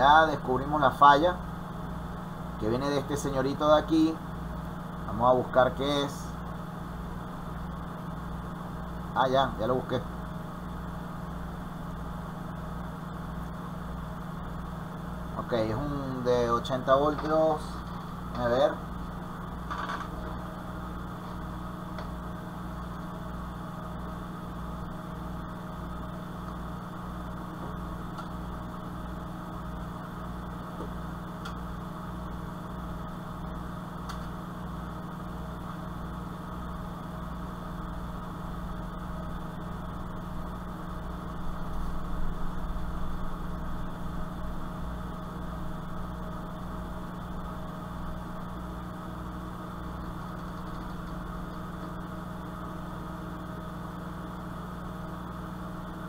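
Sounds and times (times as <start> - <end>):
machine hum with throb: 0.0 - 56.0.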